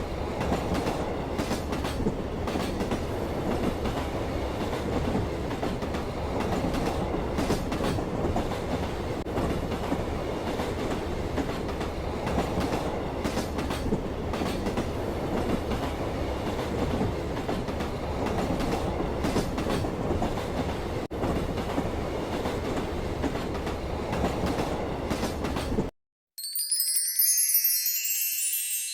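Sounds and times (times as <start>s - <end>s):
train rumbling on rails: 0.0s - 25.9s.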